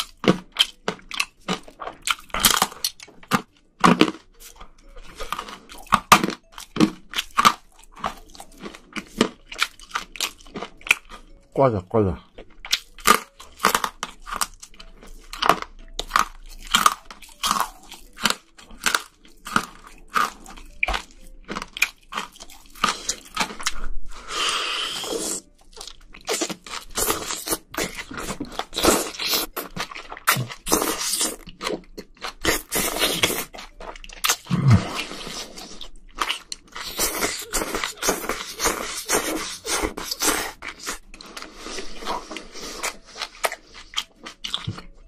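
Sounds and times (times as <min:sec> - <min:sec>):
crunching bites and chewing: 0:00.0 - 0:11.5, 0:12.2 - 0:45.0.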